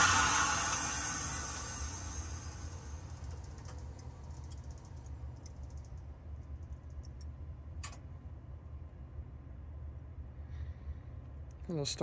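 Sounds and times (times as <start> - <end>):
heat pump humming: 0.0 - 10.4.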